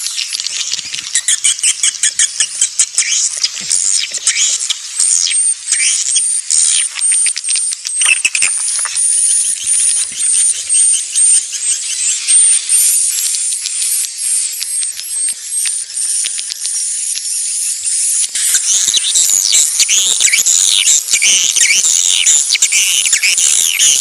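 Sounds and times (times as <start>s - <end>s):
swiftlet chirps and clicking trills: 0.0s - 24.0s.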